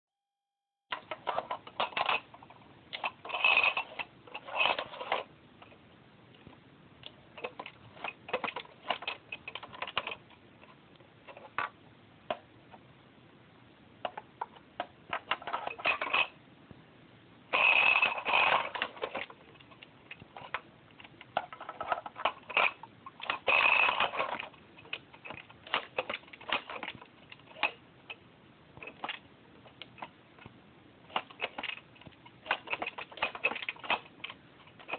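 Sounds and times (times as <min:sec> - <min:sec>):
plastic toy clicking and clattering: 0:00.9 - 0:05.8, 0:07.0 - 0:12.4, 0:14.0 - 0:16.4, 0:17.6 - 0:28.2, 0:28.8 - 0:30.5, 0:31.1 - 0:34.9.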